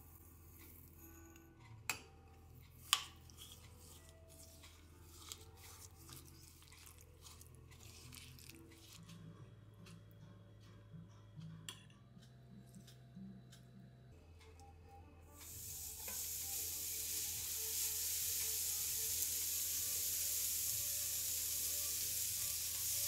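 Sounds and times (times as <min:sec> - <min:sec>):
soft background music: 0:00.0 - 0:23.0.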